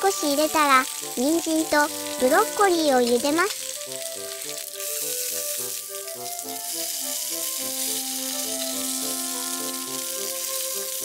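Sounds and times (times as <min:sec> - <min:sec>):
food sizzling in a frying pan: 0:00.0 - 0:11.0
soft background music: 0:00.0 - 0:11.0.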